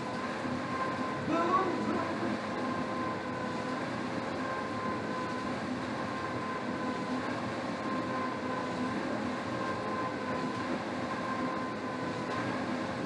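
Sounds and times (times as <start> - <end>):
faint steady whine: 0.0 - 13.0
rowing machine fan whooshing: 0.0 - 13.0.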